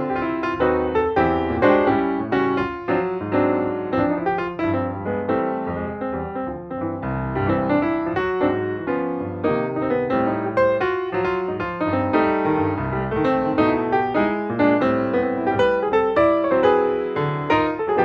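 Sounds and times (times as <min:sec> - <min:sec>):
background piano music: 0:00.0 - 0:18.0.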